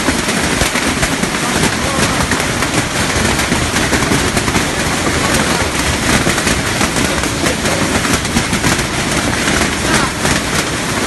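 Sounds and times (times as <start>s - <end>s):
hailstones pelting down: 0.0s - 11.0s.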